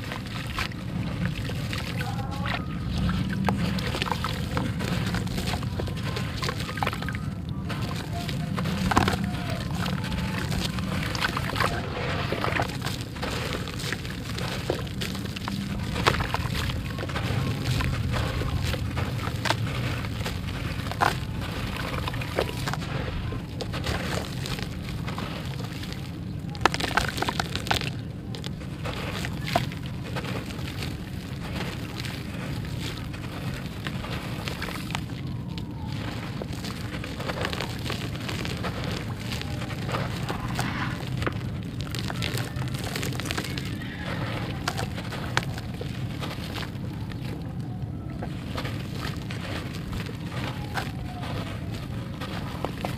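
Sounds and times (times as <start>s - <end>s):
gravel crumbling and crunching: 0.0s - 52.9s
low hum: 0.0s - 52.9s
low rumble: 0.0s - 52.9s
wet sand pouring into water: 0.0s - 52.9s.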